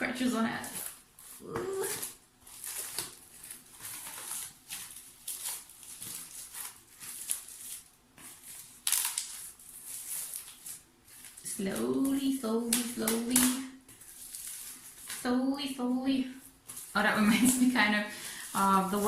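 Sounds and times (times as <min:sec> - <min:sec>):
packaging rustling and crinkling: 0:00.1 - 0:15.3, 0:16.4 - 0:19.0.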